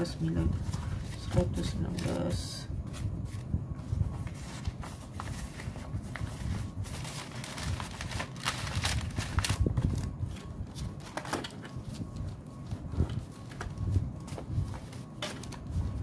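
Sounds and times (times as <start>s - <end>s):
paper envelopes rustling: 0.0s - 16.0s.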